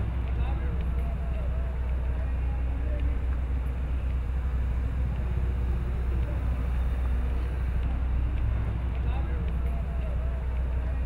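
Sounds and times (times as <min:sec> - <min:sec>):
faint distant voices: 0:00.0 - 0:11.0
low outdoor rumble: 0:00.0 - 0:11.0.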